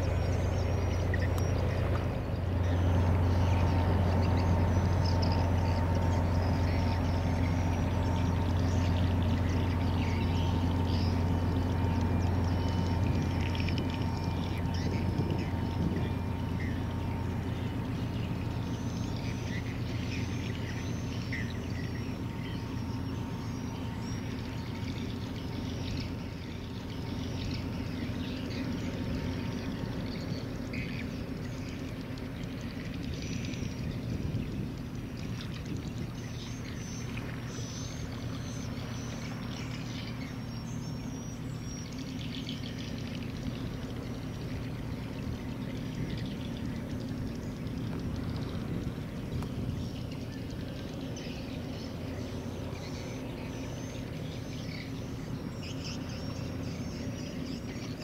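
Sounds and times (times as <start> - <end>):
ship engine drone: 0.0 - 58.0
wake water rushing and splashing: 0.0 - 58.0.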